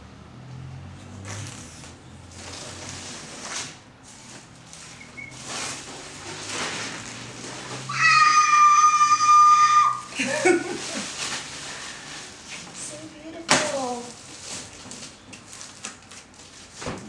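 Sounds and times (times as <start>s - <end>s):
plastic wrap rustling and tearing: 1.3s - 8.4s, 10.0s - 17.0s.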